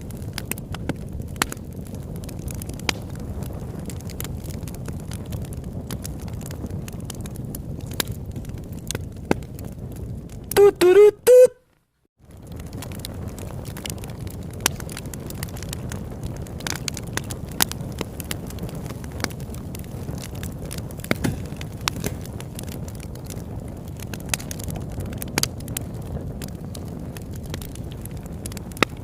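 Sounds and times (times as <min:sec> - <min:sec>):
campfire crackling and snapping: 0:00.0 - 0:11.0, 0:12.1 - 0:29.0.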